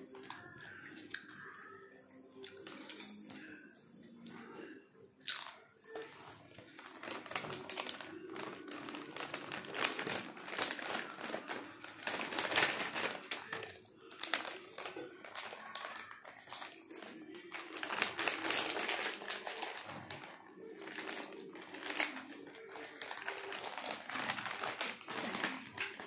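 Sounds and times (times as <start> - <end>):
children chewing: 0.0 - 26.0
potato chips crunching: 4.3 - 26.0.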